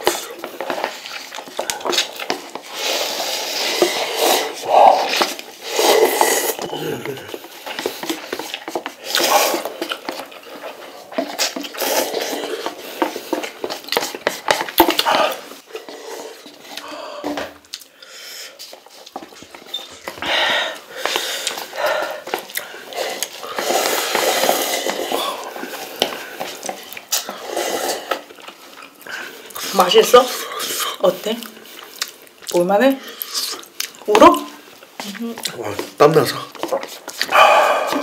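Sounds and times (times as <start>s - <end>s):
slurping noodles: 0.0s - 17.5s, 18.4s - 32.3s
chewing: 0.0s - 38.0s.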